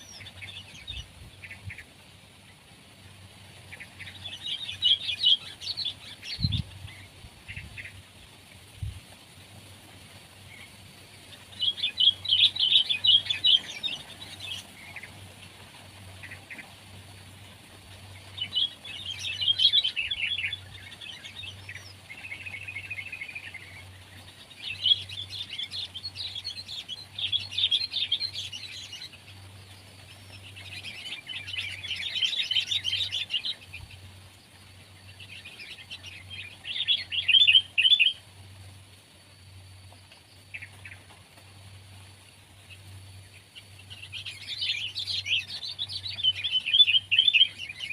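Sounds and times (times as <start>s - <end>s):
bird chirping: 0.0s - 2.6s, 3.6s - 8.1s, 10.5s - 47.9s.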